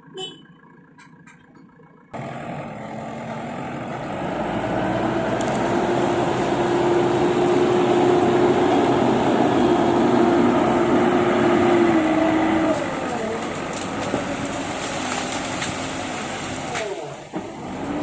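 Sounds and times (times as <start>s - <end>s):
excavator engine whining: 0.0s - 18.0s.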